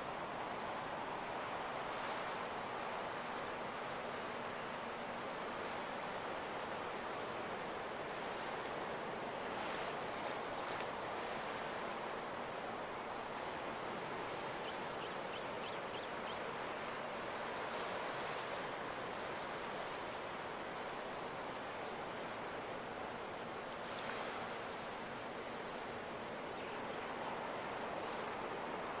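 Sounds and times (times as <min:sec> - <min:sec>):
ocean surf: 0:00.0 - 0:29.0.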